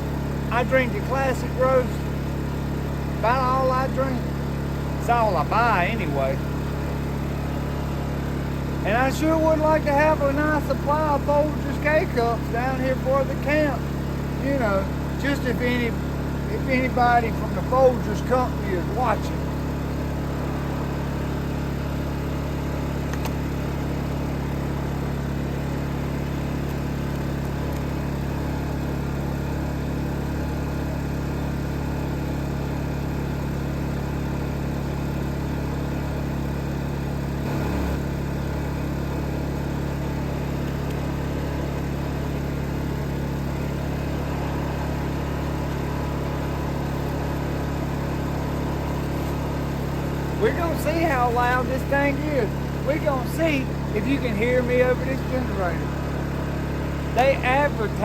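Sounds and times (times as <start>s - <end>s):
generator running at idle: 0.0s - 58.0s.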